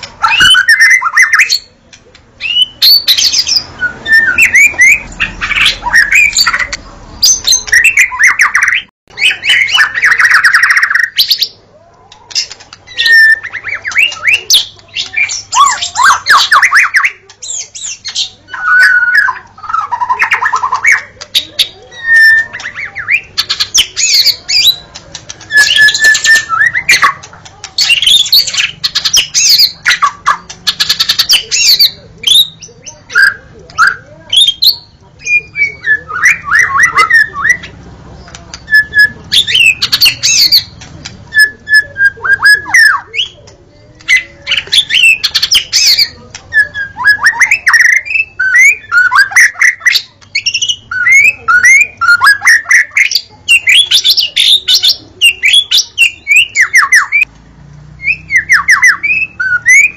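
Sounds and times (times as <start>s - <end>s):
bird singing whistles and chatters: 0.0s - 1.8s, 2.4s - 57.3s, 58.0s - 59.9s.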